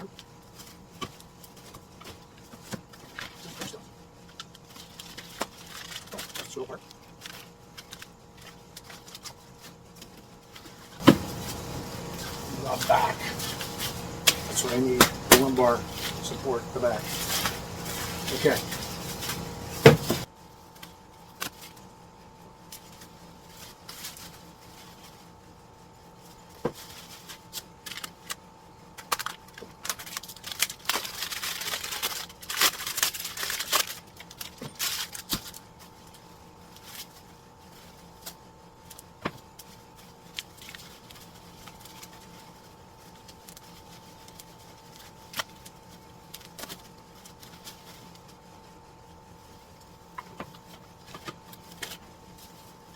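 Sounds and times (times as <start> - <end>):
faint hum: 0.0 - 52.9
plastic and cardboard rustling: 0.0 - 52.9.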